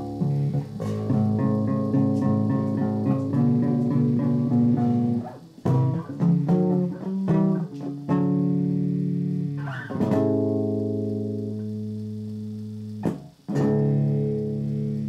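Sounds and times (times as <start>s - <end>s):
bass guitar strings plucked: 0.0s - 15.0s.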